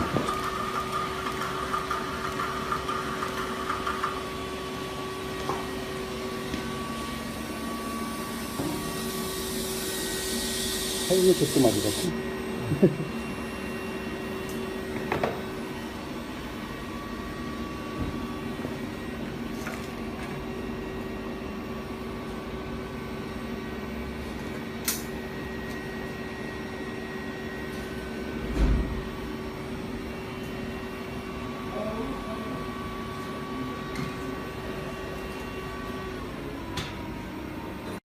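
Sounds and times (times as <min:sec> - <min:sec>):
steady machine hum: 0:00.0 - 0:38.0.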